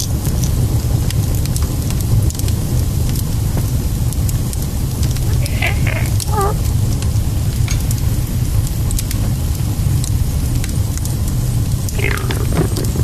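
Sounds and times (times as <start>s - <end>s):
fire crackling in a fireplace: 0.0s - 13.0s
steady low rumble: 0.0s - 13.0s.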